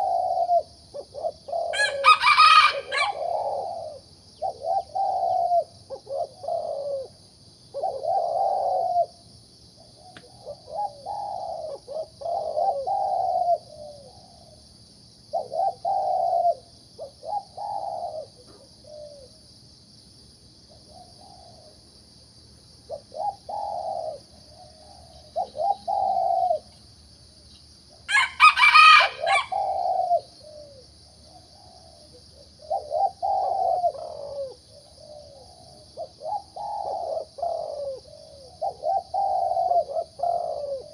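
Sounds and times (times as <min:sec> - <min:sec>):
dove cooing: 0:00.0 - 0:09.2, 0:09.9 - 0:14.6, 0:15.3 - 0:19.4, 0:20.8 - 0:21.7, 0:22.9 - 0:26.8, 0:28.1 - 0:40.9.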